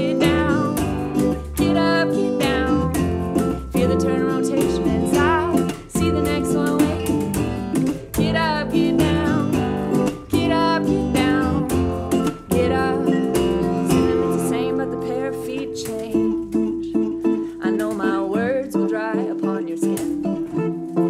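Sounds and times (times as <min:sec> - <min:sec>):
person singing: 0:00.0 - 0:20.3
strummed acoustic guitar: 0:00.0 - 0:21.0
upright bass: 0:00.0 - 0:21.0.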